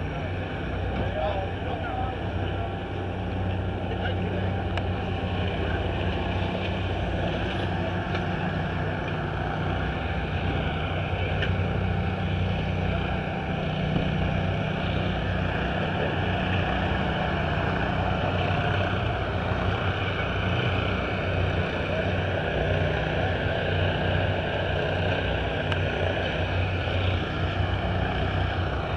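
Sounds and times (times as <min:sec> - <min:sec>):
busy pit area noise: 0:00.0 - 0:28.9
engine droning: 0:00.0 - 0:28.9.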